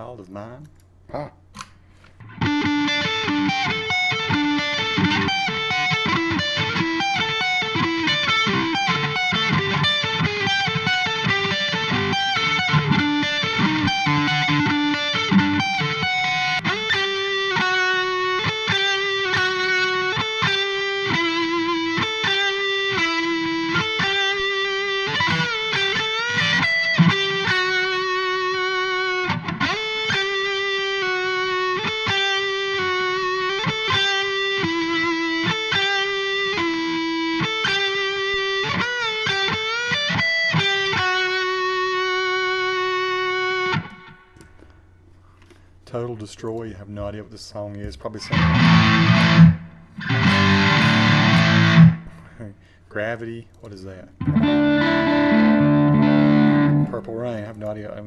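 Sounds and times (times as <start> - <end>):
electric guitar through an amp: 2.2 - 44.7, 48.2 - 52.3, 54.2 - 57.5.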